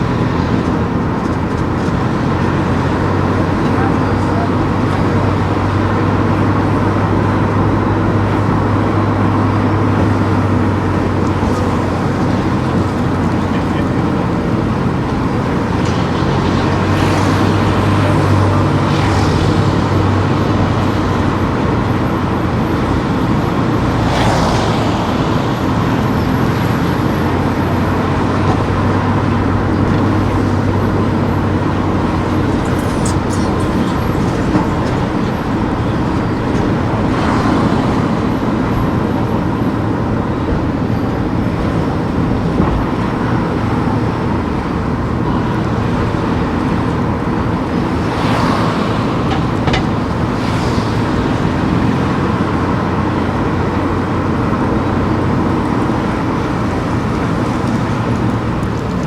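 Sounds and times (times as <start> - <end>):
vehicle passing: 0.0 - 55.0
car engine drone: 0.0 - 59.0
road noise: 0.0 - 59.0.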